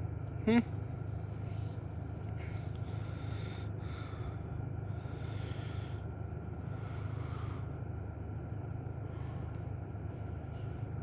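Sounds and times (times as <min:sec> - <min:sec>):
low rumble inside car: 0:00.0 - 0:11.0
man breathing close to microphone: 0:01.1 - 0:11.0.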